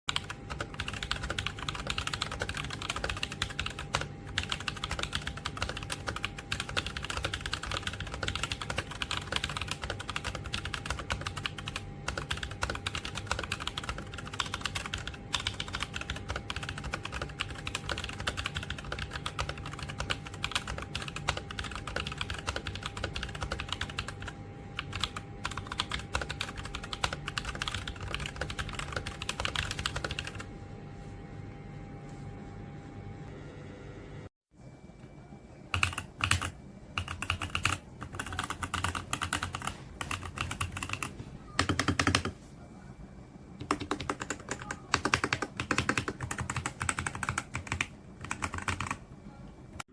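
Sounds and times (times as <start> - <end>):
fast typing on mechanical keyboard: 0.1 - 30.5, 35.7 - 42.4, 43.6 - 49.0.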